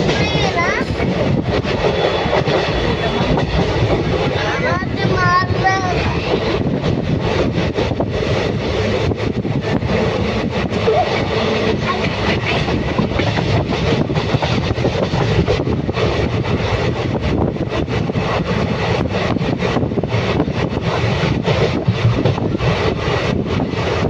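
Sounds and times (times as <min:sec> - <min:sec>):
train rumbling and clattering: 0:00.0 - 0:24.0.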